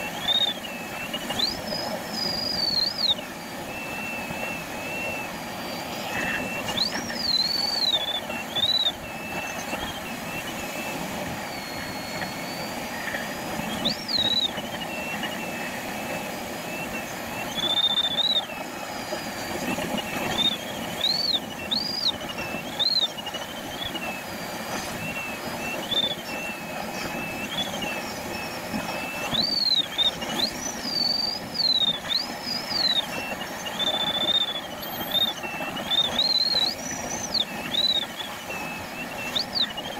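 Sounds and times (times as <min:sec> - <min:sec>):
airflow rushing over canopy: 0:00.0 - 0:39.9
electronic variometer tone: 0:00.0 - 0:39.9.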